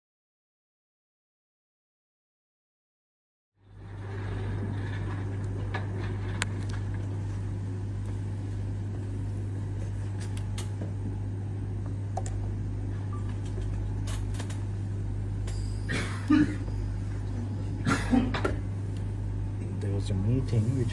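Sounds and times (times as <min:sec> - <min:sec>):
steady low hum: 0:03.6 - 0:20.9.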